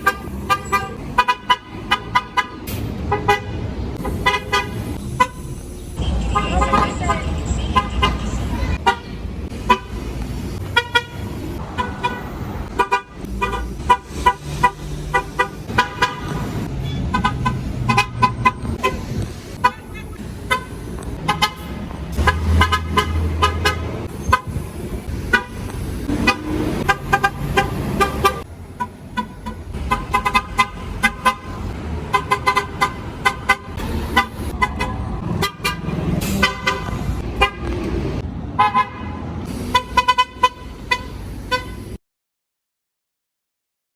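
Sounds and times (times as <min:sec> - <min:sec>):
bus horns honking: 0:00.0 - 0:42.0
engines rumbling: 0:00.0 - 0:42.0.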